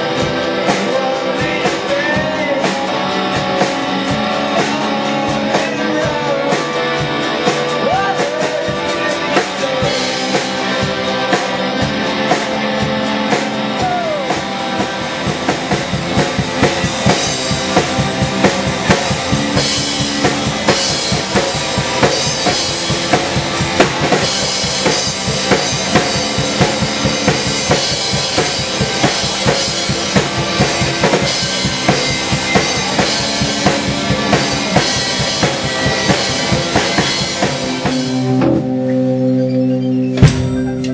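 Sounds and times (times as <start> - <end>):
drums with cymbals: 0.0 - 40.9
rock band playing: 0.0 - 40.9.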